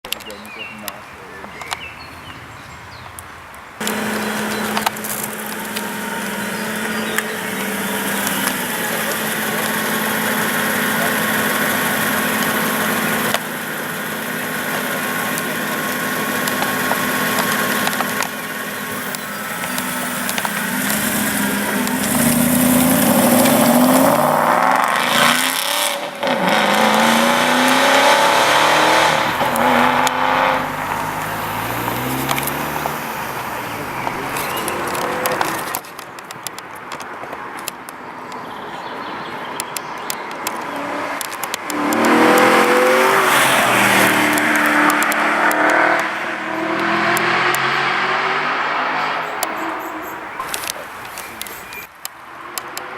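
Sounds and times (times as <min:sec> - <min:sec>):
car engine idling: 0:03.8 - 0:36.8, 0:41.5 - 0:52.1.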